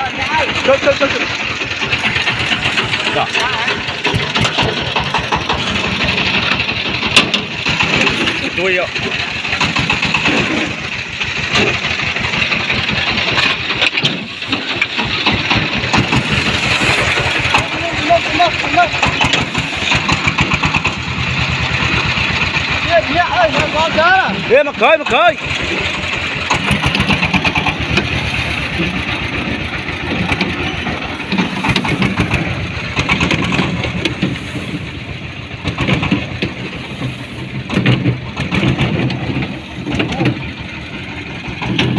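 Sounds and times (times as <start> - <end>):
engine running with low chugging: 0.0 - 41.9
rapid clicking rattle: 0.0 - 41.9.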